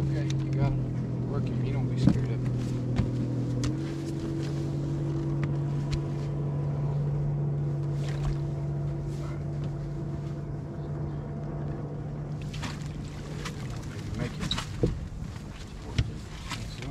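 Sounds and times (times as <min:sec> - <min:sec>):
light wind: 0:00.0 - 0:16.9
water noise: 0:00.0 - 0:16.9.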